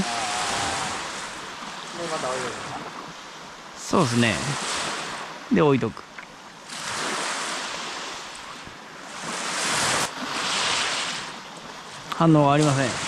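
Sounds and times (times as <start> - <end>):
small waves washing on beach: 0.0 - 13.0.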